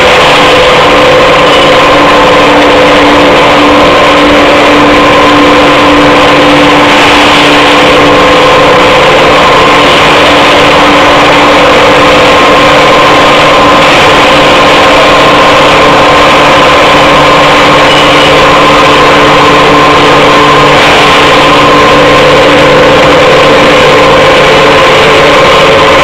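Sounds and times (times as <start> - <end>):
loud steady machine hum: 0.0 - 26.0.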